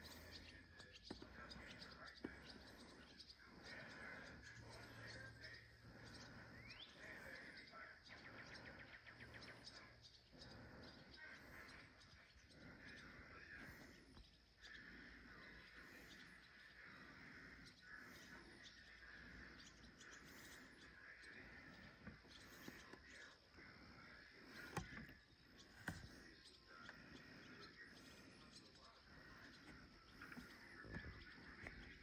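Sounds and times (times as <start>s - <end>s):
faint bird chirps and calls: 0.0s - 32.0s.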